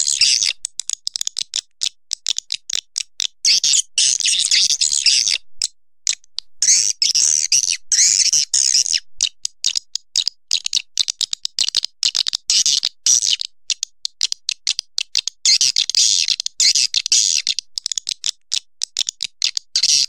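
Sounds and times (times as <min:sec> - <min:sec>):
short bird chirps and clicks: 0:00.0 - 0:20.0.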